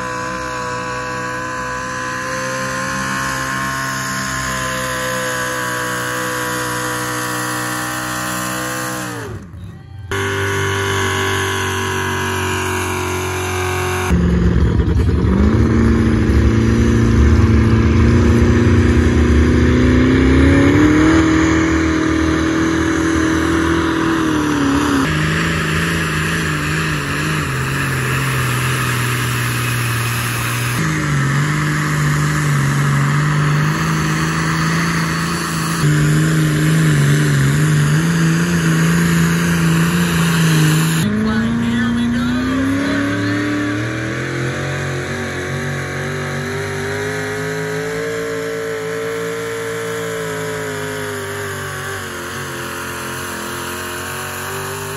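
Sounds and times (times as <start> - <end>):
engines at full throttle: 0.0 - 54.9.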